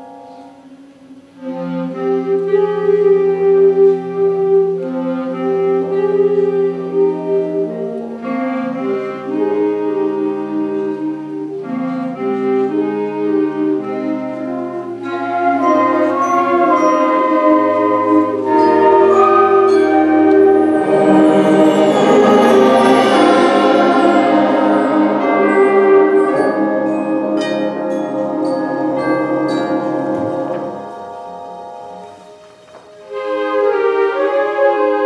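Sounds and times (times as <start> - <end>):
concert band playing held chords: 4.3 - 33.0.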